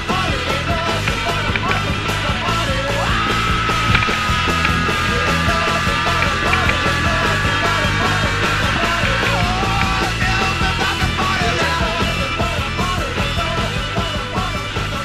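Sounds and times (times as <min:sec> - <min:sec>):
band playing a steady beat: 0:00.0 - 0:15.0
person singing: 0:00.0 - 0:15.0.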